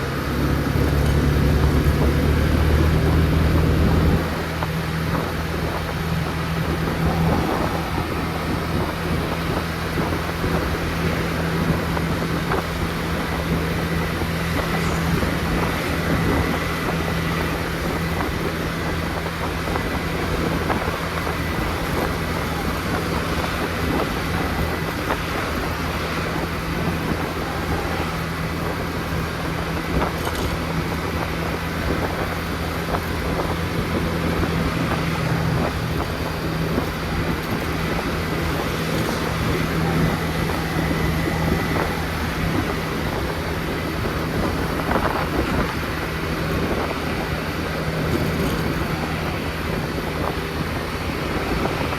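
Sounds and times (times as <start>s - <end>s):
road noise: 0.0s - 51.9s
scooter engine humming: 0.0s - 51.9s
wind on microphone: 0.0s - 51.9s.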